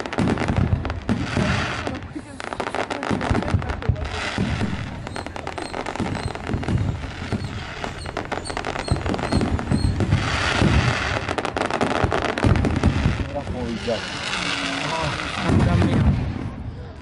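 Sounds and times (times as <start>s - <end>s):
firecrackers popping: 0.0s - 16.6s.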